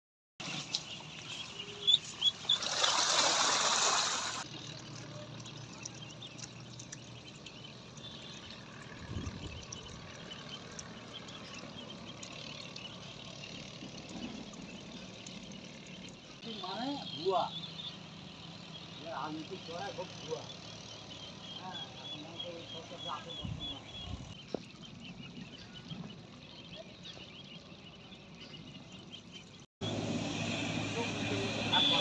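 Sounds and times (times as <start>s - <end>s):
ducklings splashing in water: 0.4s - 29.6s.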